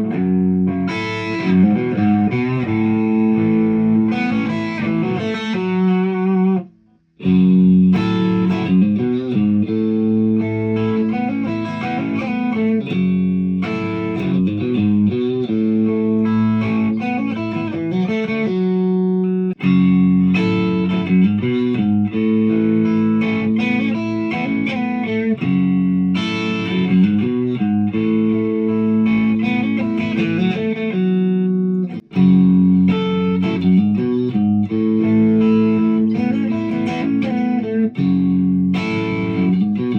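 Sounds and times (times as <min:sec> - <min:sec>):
electric guitar ringing notes: 0:00.0 - 0:39.9.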